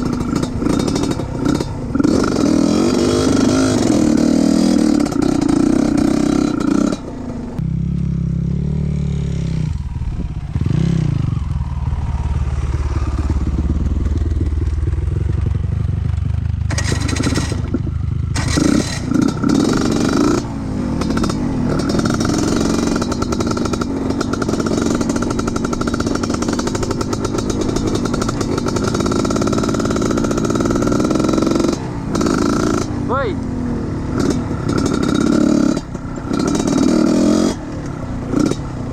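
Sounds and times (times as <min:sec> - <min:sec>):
trail motorcycle engine revving: 0:00.0 - 0:38.9.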